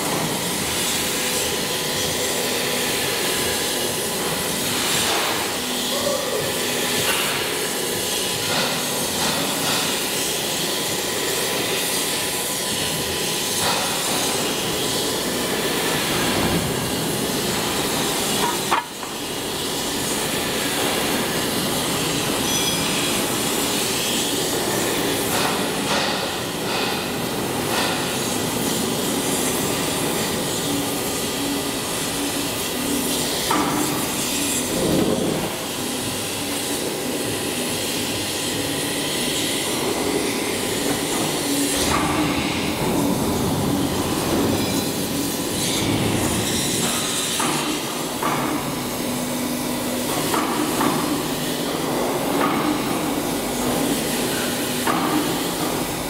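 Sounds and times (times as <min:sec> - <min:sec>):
plate rolling machine droning: 0:00.0 - 0:56.0.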